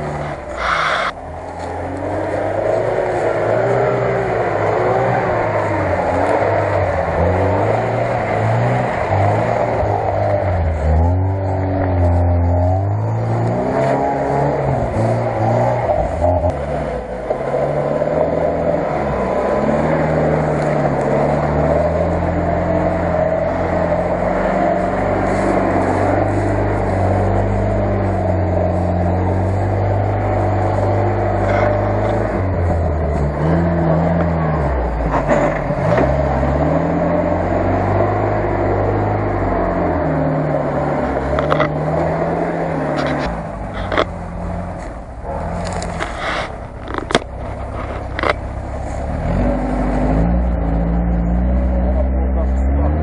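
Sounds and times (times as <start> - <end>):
off-roader engine revving: 0.0 - 53.0.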